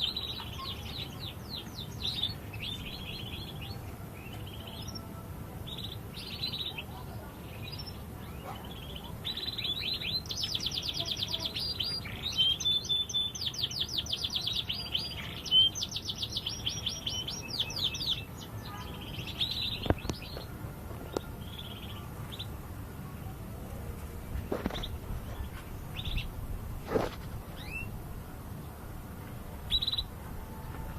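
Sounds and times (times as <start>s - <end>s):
canary singing: 0.0s - 23.1s, 24.4s - 30.9s.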